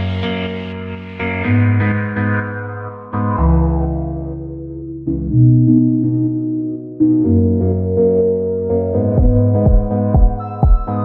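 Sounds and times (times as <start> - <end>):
ambient music sustained chords: 0.0 - 11.0.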